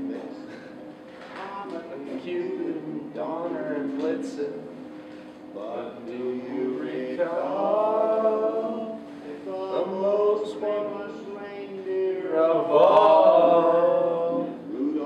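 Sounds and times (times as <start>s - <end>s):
men singing unaccompanied: 1.3s - 4.7s, 5.6s - 15.0s.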